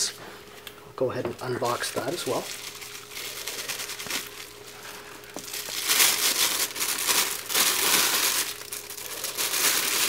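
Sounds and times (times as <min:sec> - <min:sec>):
bubble wrap and plastic bag crinkling: 0:01.3 - 0:10.0.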